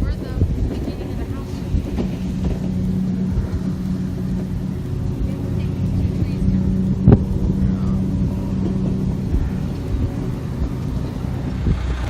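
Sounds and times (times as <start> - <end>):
engine running low rumble: 0.0 - 12.0.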